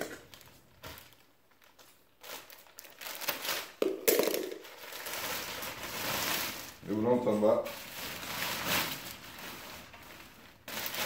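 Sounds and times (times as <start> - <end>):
plastic wrap crinkling and tearing: 0.0 - 11.0.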